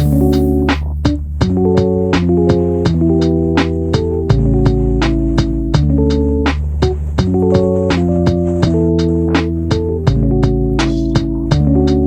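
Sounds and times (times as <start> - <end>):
held keyboard chords: 0.0 - 12.0
steady beat: 0.0 - 12.0.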